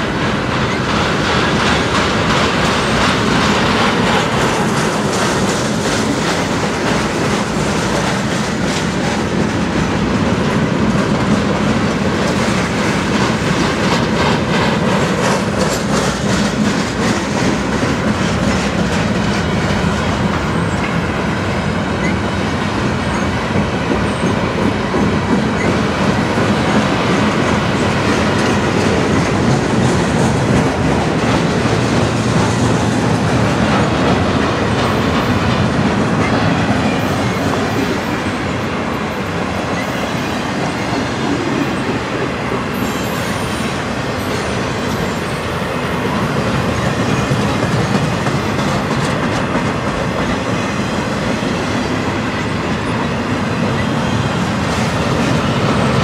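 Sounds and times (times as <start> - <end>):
train wheels rumbling on rails: 0.0 - 56.0
wheels clacking over track joints: 0.0 - 56.0.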